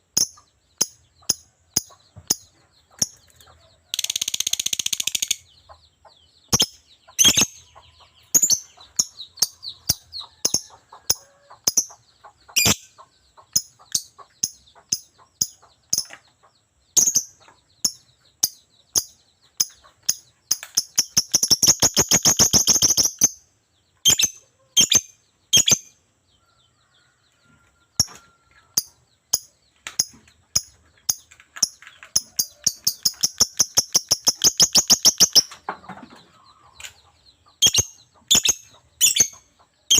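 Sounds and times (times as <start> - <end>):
bird chirping and chattering: 0.0 - 26.1, 27.9 - 39.9.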